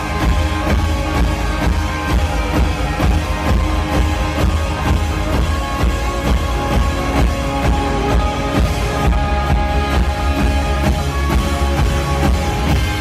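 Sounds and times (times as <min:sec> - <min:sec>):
drum kit steady beat: 0:00.0 - 0:13.0
electric and acoustic guitars: 0:00.0 - 0:13.0.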